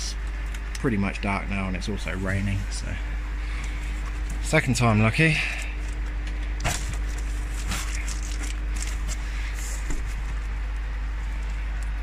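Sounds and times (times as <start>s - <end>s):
pond pump humming: 0.0s - 12.0s.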